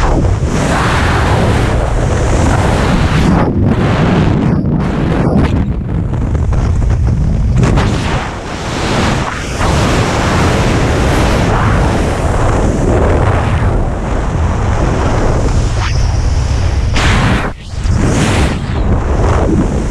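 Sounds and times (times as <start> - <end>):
wind rushing over microphone: 0.0 - 19.9.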